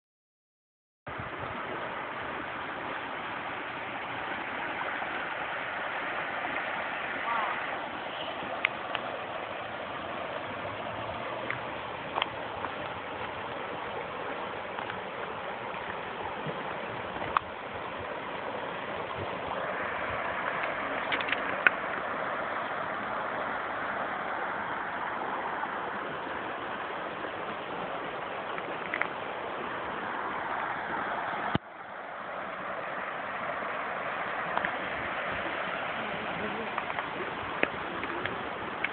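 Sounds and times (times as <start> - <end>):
river rushing over rubble: 1.1 - 38.9.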